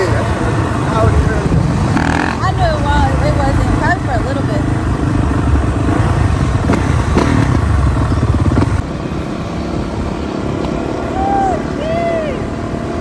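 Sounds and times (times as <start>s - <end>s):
dirt bike engines rumbling: 0.0s - 13.0s.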